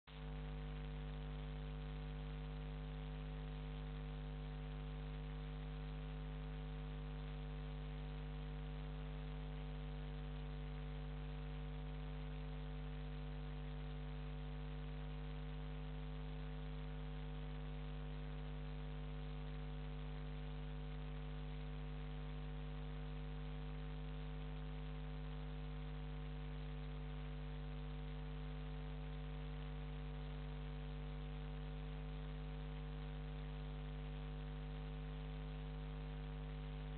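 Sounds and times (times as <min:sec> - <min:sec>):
electrical mains hum: 0:00.1 - 0:36.9.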